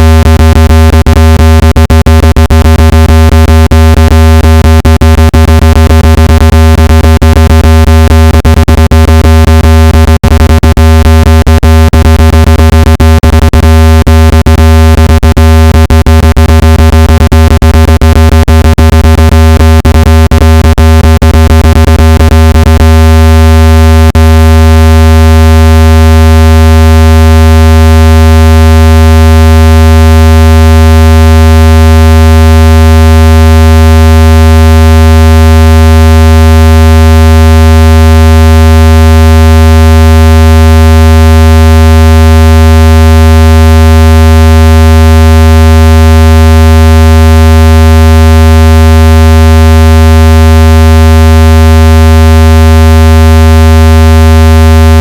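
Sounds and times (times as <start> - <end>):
deep buzzy electronic tone: 0.0 - 55.0.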